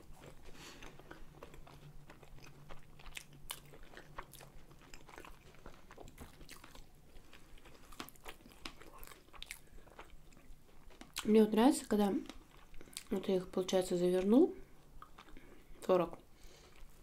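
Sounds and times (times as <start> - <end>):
person chewing: 0.0 - 11.4, 12.2 - 13.2, 14.6 - 17.0
faint low hum: 0.0 - 17.0.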